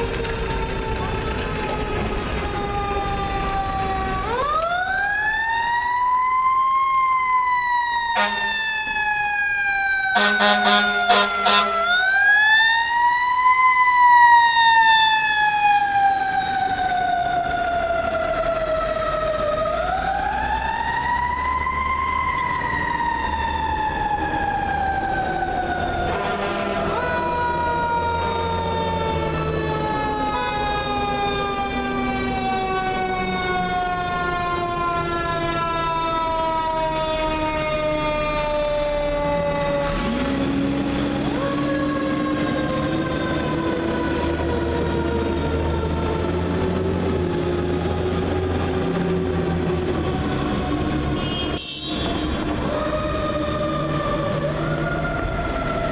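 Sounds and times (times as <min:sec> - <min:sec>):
lower rising siren tone: 0:00.0 - 0:51.2, 0:52.0 - 0:55.9
mechanical siren wailing: 0:00.0 - 0:55.9.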